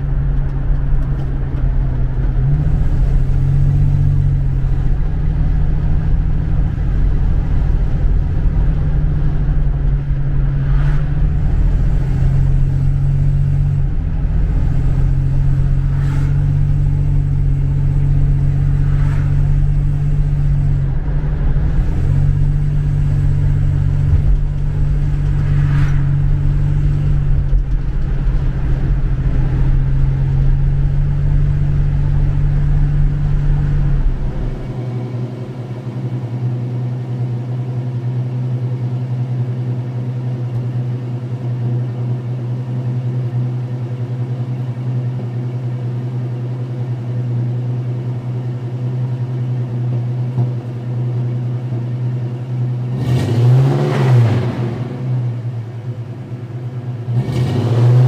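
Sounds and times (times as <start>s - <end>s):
car engine idling: 0.0s - 53.0s
car engine at road speed: 0.0s - 58.0s.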